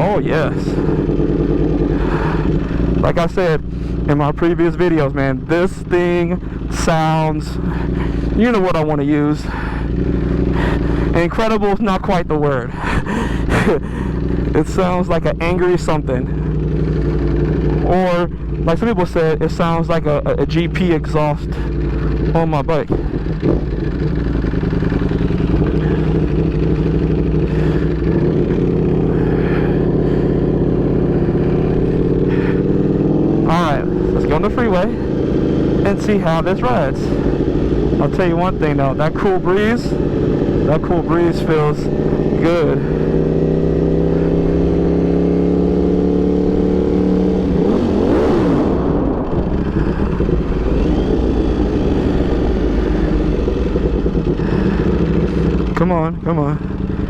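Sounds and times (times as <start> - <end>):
motorcycle engine through race exhaust: 0.0 - 57.0.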